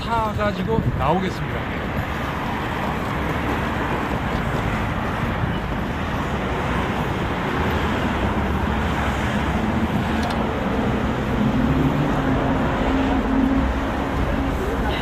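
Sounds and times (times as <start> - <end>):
passing road vehicles: 0.0 - 15.0
vehicle engine hum: 1.6 - 15.0.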